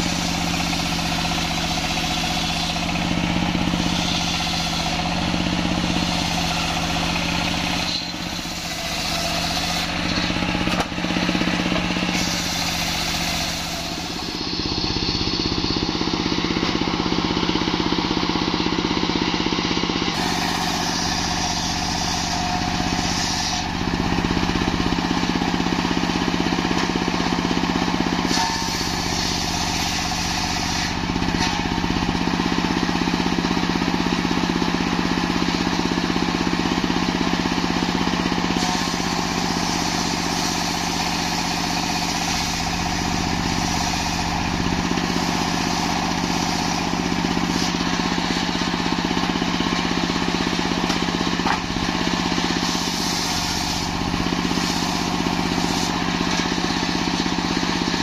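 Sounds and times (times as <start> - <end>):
circular saw cutting log: 0.0 - 18.9, 20.0 - 58.0
stationary engine running: 0.0 - 58.0.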